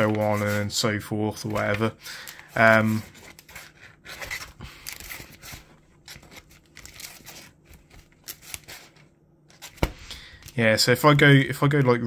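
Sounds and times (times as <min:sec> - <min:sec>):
plastic pages rustling: 0:00.0 - 0:10.6.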